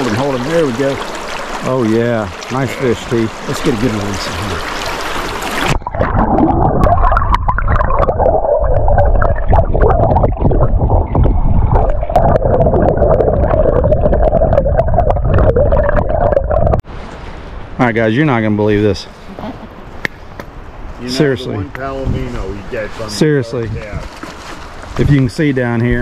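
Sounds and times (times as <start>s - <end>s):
muffled underwater river rushing: 0.0s - 21.0s.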